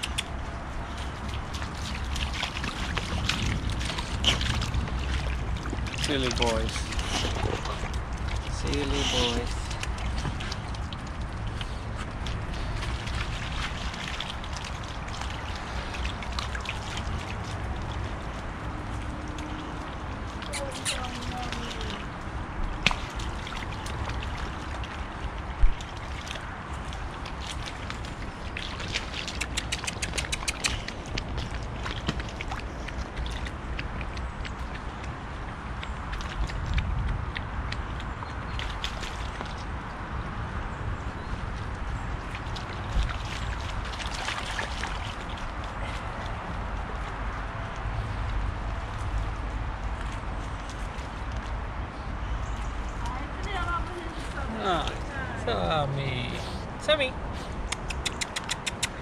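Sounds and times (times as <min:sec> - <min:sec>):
steady low rumble: 0:00.0 - 0:20.5, 0:21.2 - 0:58.0
dog splashing in puddle: 0:00.0 - 0:59.0.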